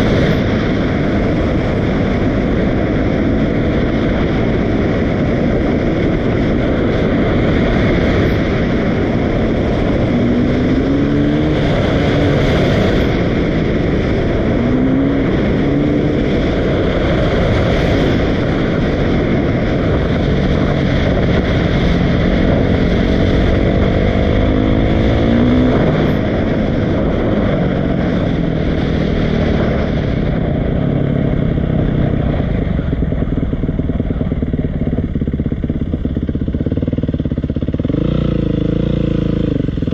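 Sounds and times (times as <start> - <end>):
dirt bike engine revving: 0.0 - 32.4, 35.2 - 39.9
loud steady rush of noise: 0.0 - 39.9.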